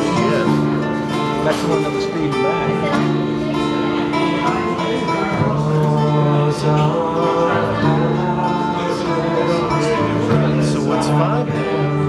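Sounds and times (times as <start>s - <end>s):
acoustic guitars playing: 0.0s - 12.0s
person singing: 0.0s - 12.0s.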